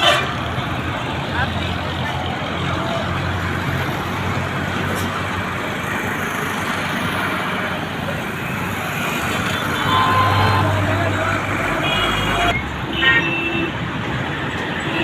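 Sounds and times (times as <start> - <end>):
buses and trucks driving past: 0.0 - 13.0
heavy vehicle engine: 0.0 - 13.0.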